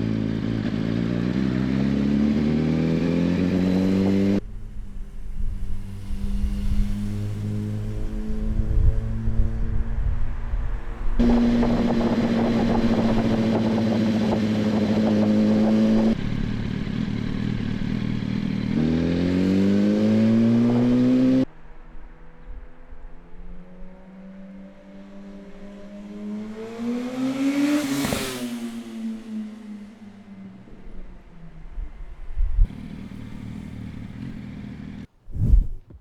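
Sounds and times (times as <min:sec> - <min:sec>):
motorcycle engine revving: 0:00.0 - 0:21.5, 0:23.3 - 0:35.1
motorcycle passing close: 0:00.0 - 0:35.1.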